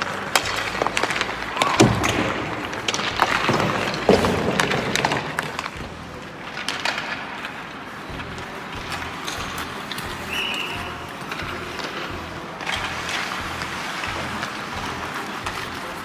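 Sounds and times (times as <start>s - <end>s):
skates scraping ice: 0.0s - 16.0s
sticks and pucks clacking: 0.0s - 16.0s.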